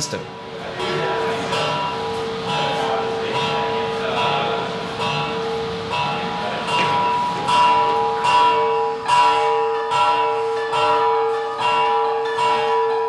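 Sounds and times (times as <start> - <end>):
bell-like metallic chiming: 0.8 - 13.0.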